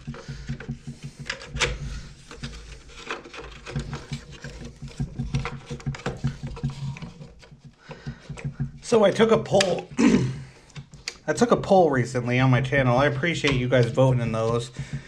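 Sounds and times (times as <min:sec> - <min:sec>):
plastic clicks and knocks: 0:00.0 - 0:11.3, 0:12.7 - 0:15.0.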